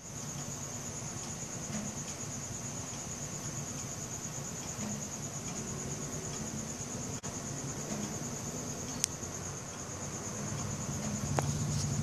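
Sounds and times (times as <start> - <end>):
crickets trilling: 0.0 - 12.0
low steady hum: 0.0 - 12.0.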